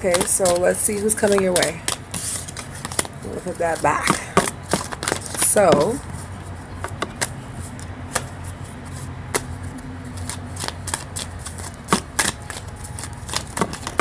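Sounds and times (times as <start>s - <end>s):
cards being shuffled: 0.0s - 14.0s
low steady hum: 0.0s - 14.0s.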